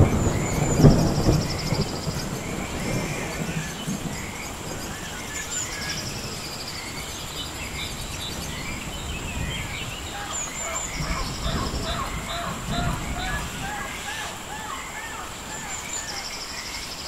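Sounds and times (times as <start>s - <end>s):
birds chirping and whistling: 0.0s - 17.0s
rain hissing: 0.0s - 17.0s.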